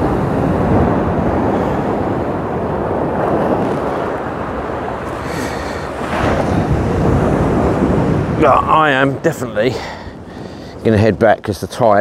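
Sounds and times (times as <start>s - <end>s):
sea surf breaking: 0.0s - 12.0s
wind on microphone: 0.0s - 12.0s.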